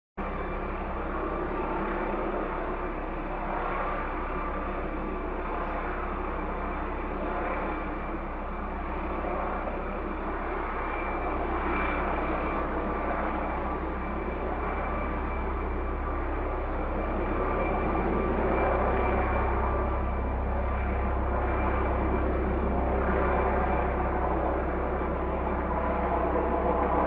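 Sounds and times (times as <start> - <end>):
helicopter hovering: 0.2 - 27.0.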